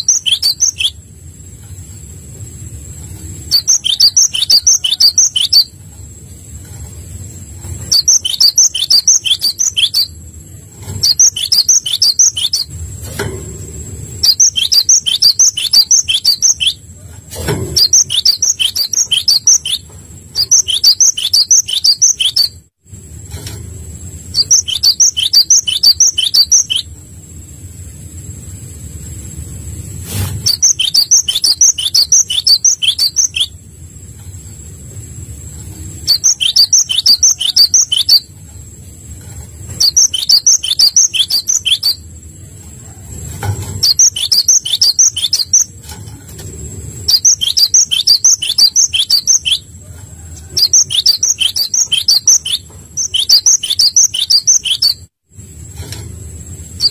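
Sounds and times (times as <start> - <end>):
songbird chirping: 0.0 - 17.0, 17.6 - 22.6, 24.2 - 27.1, 30.4 - 55.1
faint high whine: 0.0 - 56.9.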